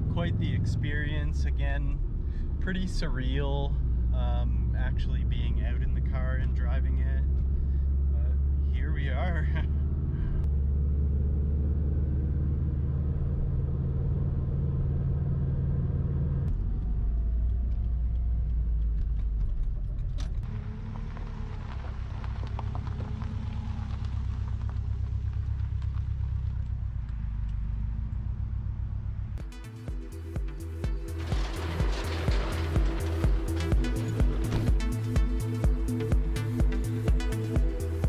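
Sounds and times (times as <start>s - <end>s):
car engine humming: 0.0s - 38.0s
road noise: 0.0s - 38.0s.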